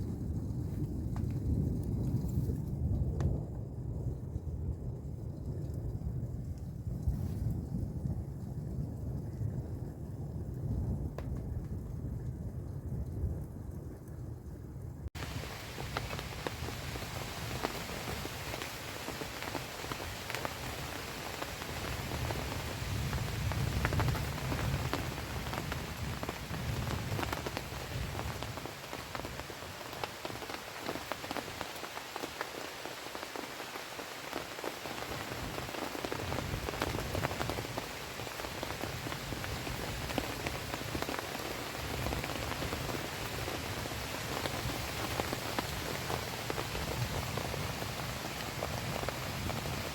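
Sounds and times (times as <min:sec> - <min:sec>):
heavy rain on a tarp: 0:00.0 - 0:14.4, 0:15.0 - 0:49.9.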